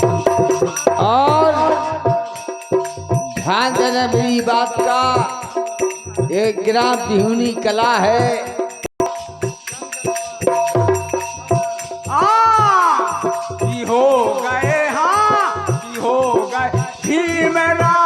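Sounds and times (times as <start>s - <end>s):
jingling rattle percussion: 0.0s - 18.0s.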